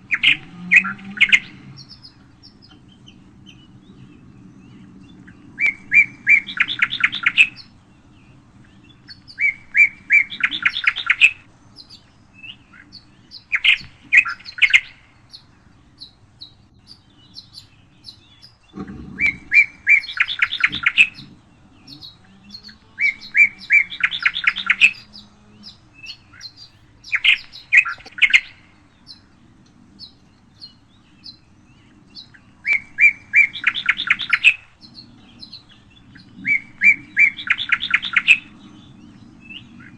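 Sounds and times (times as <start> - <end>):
songbird singing with trill: 0.0 - 39.9.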